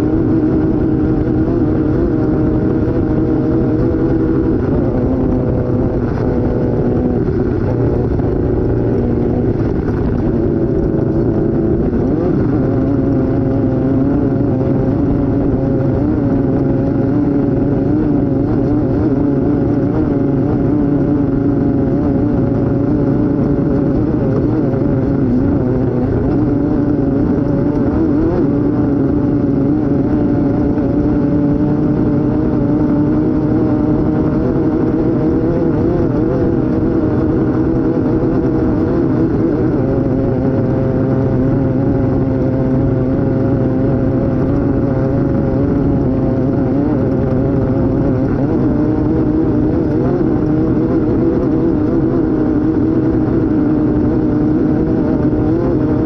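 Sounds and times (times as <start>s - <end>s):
driving noise rush: 0.0s - 56.0s
race car engine revving: 0.0s - 56.0s.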